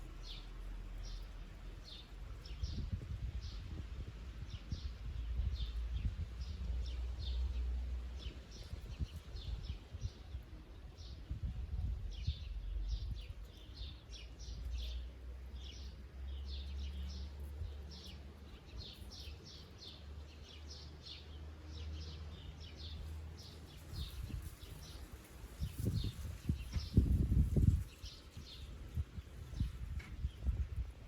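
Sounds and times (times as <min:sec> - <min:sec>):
songbirds chirping and singing: 0:00.0 - 0:30.9.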